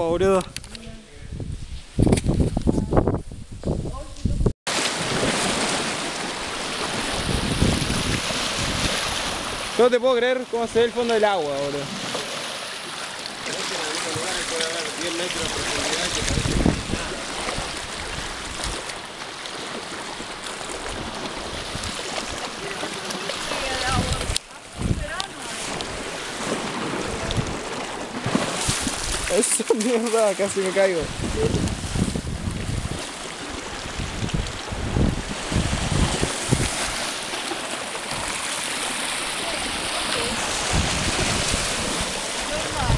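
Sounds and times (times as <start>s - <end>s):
sea waves splashing on rocks: 4.7s - 10.0s, 10.8s - 42.9s.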